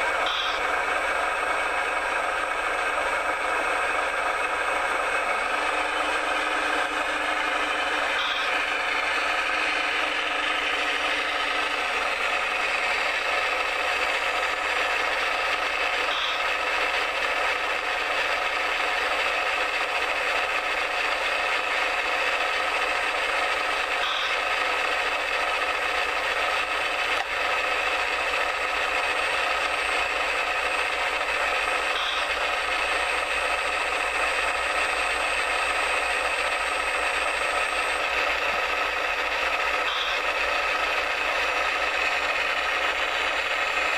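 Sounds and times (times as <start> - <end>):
model digger motors whirring: 0.0 - 43.9.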